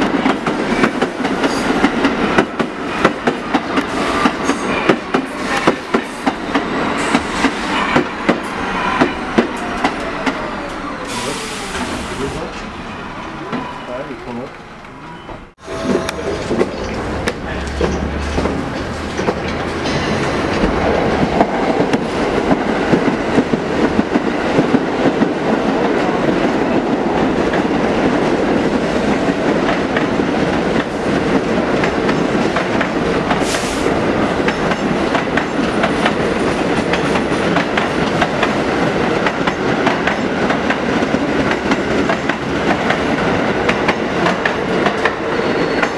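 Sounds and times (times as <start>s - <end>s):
clickety-clack over rail joints: 0.0s - 10.4s, 15.9s - 45.9s
subway train rumble: 0.0s - 45.9s.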